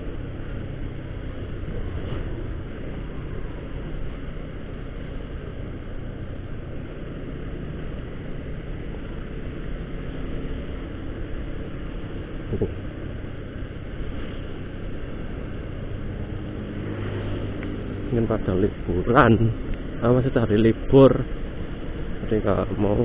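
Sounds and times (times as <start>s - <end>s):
motorcycle engine cruising: 0.0s - 23.0s
road and wind noise: 0.0s - 23.0s.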